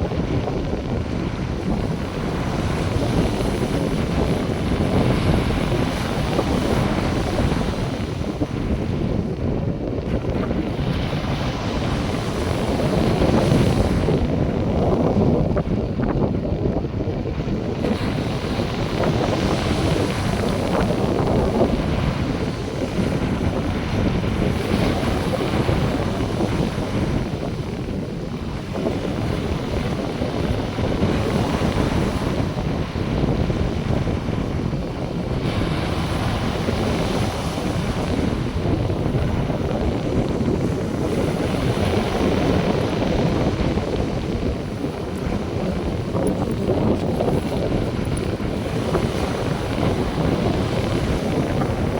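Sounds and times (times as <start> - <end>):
surf washing onto beach: 0.0 - 51.9
wind buffeting microphone: 0.0 - 51.9.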